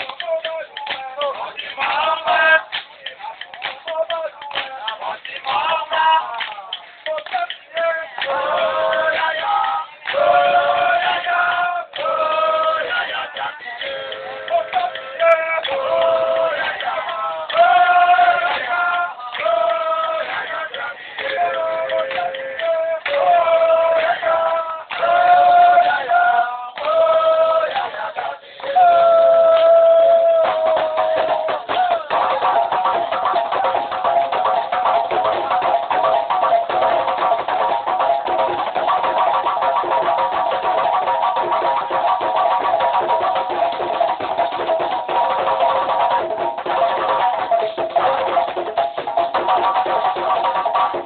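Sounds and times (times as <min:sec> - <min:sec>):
person singing: 0:00.0 - 0:48.6
fast hand percussion: 0:00.0 - 0:51.0.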